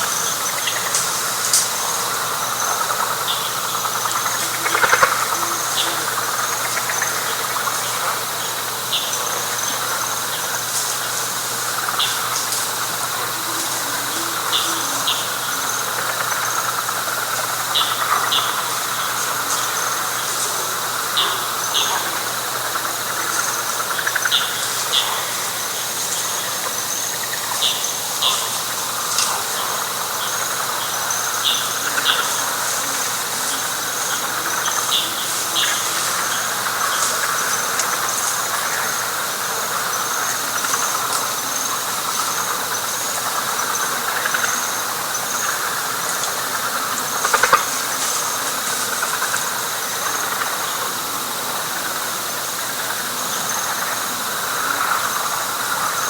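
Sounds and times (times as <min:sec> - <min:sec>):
frog chorus: 0:00.0 - 0:56.0
high pulsing insect song: 0:00.0 - 0:56.0.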